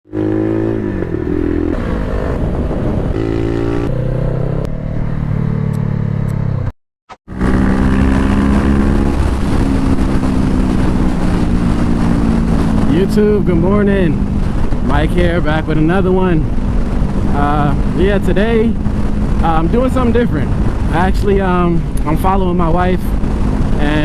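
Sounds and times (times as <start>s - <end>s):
motorcycle engine running: 0.1s - 6.7s, 7.3s - 24.0s.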